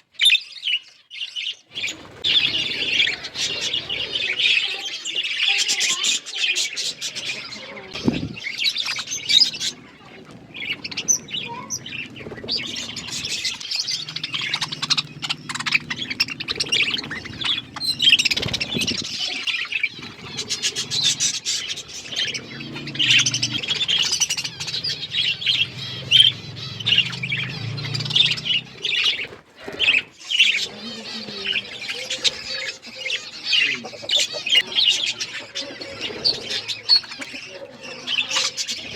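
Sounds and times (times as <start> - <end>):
budgerigars chirping and chattering: 0.0 - 38.9
wing flutters: 1.7 - 4.9, 6.8 - 37.4.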